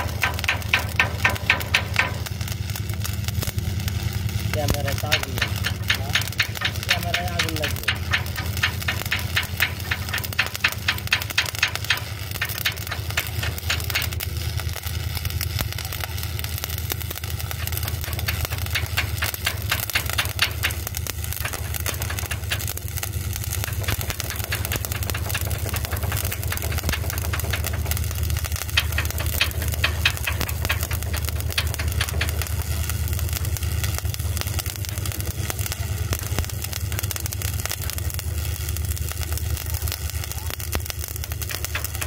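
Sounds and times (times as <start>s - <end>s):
low hum: 0.0s - 42.0s
welding arc crackling: 0.0s - 42.0s.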